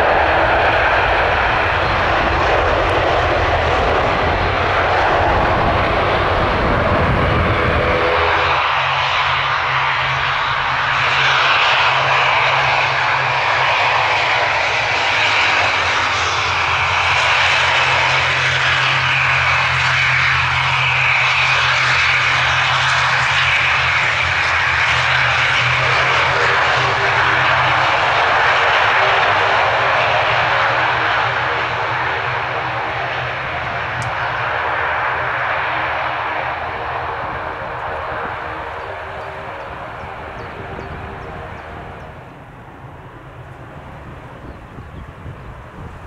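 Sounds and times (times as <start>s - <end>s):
propeller drone: 0.0s - 46.0s.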